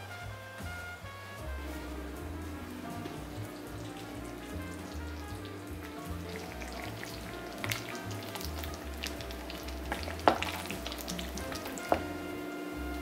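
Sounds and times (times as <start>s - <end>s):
wet stirring of sauce: 2.0s - 13.0s.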